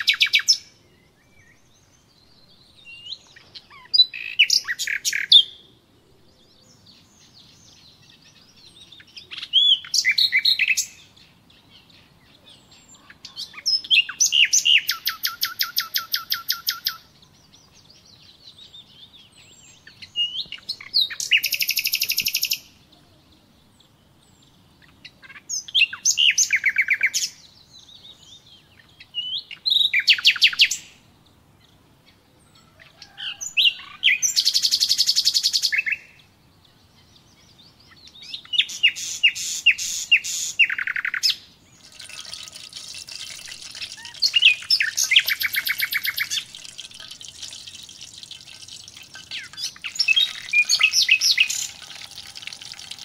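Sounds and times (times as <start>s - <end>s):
soft bird chirps and twitters: 0.0s - 53.0s
songbird singing: 0.0s - 53.0s.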